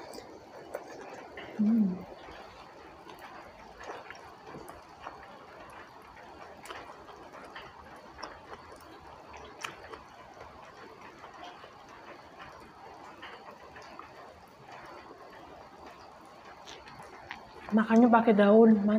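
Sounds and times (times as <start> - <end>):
person chewing food: 0.0 - 18.1.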